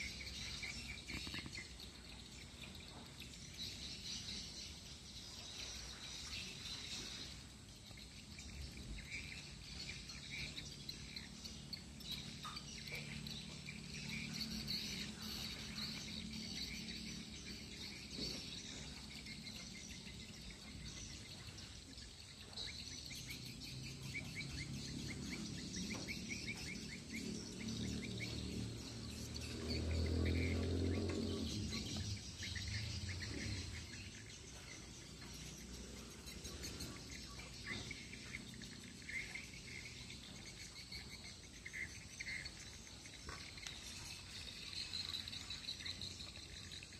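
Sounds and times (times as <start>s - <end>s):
birds chirping: 0.0s - 46.9s
insects trilling: 0.0s - 46.9s.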